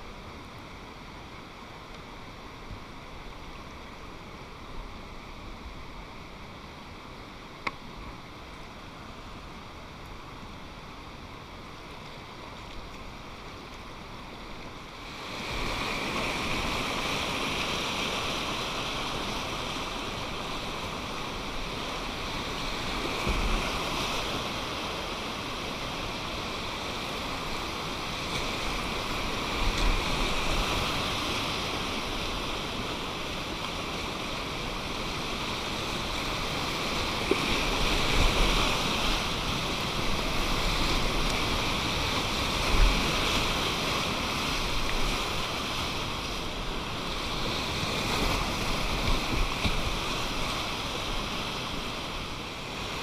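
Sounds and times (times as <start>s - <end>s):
river rapids rushing: 0.0s - 53.0s.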